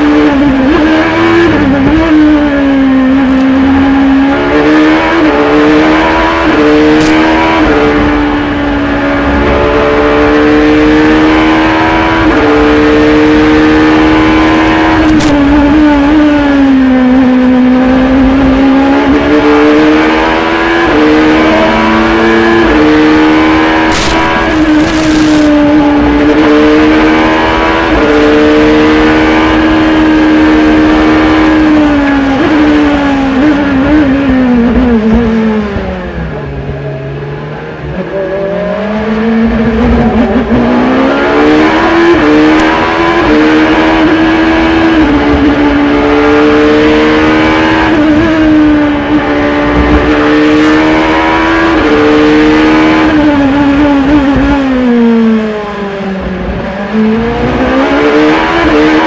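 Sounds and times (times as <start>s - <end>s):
racing car engine upshifting: 0.0s - 59.0s.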